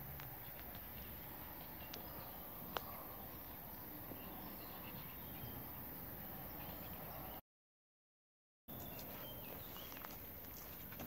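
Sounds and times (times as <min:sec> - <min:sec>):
faint distant bird chirps: 0:00.0 - 0:07.4, 0:08.7 - 0:11.0.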